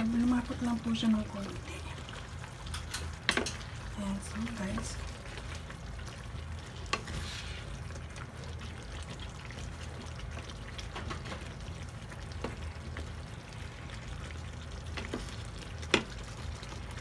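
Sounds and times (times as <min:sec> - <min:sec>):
sauce simmering and bubbling: 0:00.0 - 0:17.0.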